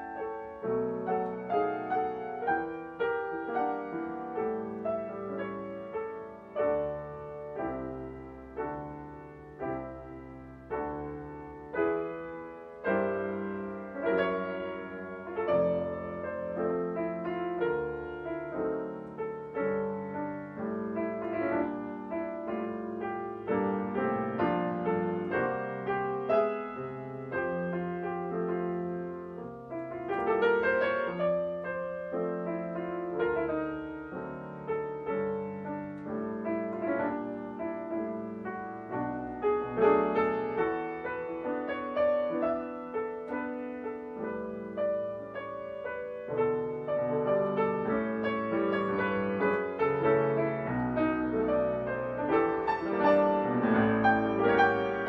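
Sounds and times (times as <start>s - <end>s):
gentle piano music: 0.0s - 55.0s.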